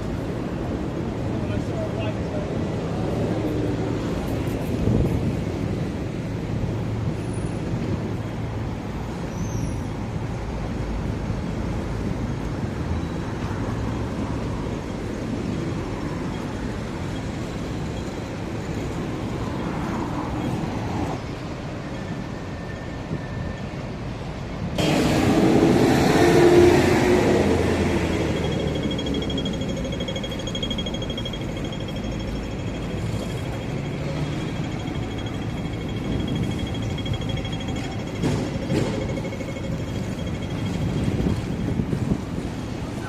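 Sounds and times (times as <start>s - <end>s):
road traffic rumbling: 0.0s - 43.0s.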